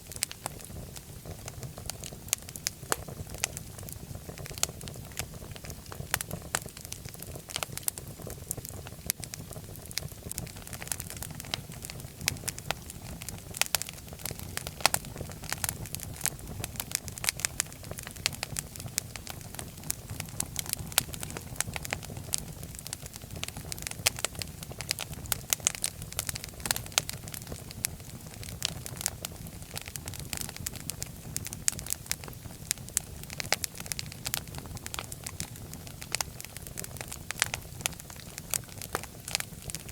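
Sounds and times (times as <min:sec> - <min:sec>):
fireplace fire crackling: 0:00.0 - 0:39.9
low rumble of flames: 0:00.0 - 0:39.9
sharp pops of fire: 0:00.1 - 0:39.9.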